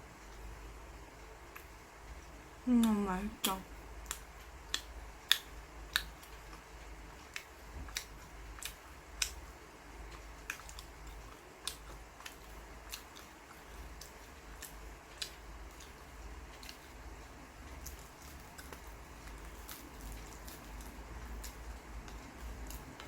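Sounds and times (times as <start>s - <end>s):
low steady hum: 0.0s - 23.0s
sharp eating clicks: 1.5s - 23.0s.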